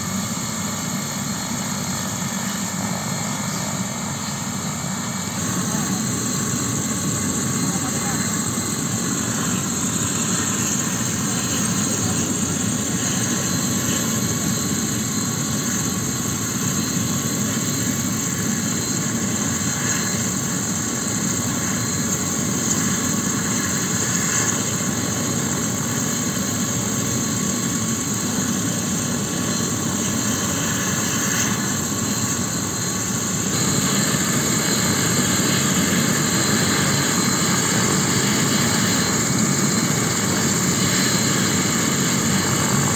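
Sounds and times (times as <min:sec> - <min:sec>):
helicopter rotor noise: 0:00.0 - 0:42.9
helicopter turbine whine: 0:00.0 - 0:42.9.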